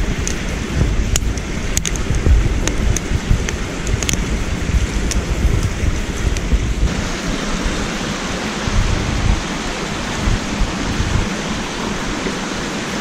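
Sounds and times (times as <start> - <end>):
campfire crackling: 0.0 - 13.0
steady low rumble: 0.0 - 13.0
stream rushing over rocks: 0.0 - 13.0.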